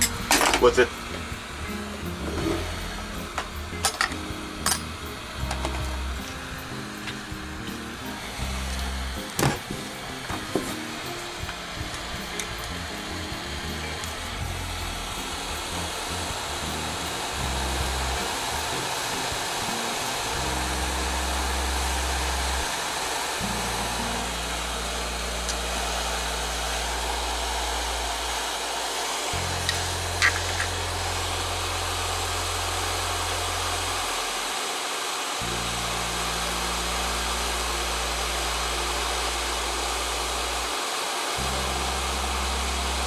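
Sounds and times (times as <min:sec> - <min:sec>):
hot-air gun blowing: 0:00.0 - 0:43.0.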